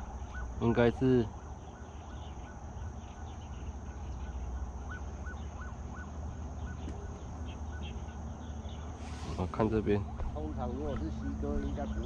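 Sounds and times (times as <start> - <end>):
short bird calls: 0.0 - 10.2
high insect drone: 0.0 - 12.0.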